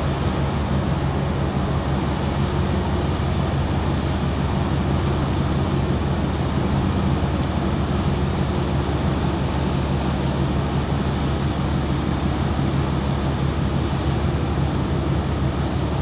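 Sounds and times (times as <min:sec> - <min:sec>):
boat diesel engine droning: 0:00.0 - 0:16.0
hiss of wind and water: 0:00.0 - 0:16.0.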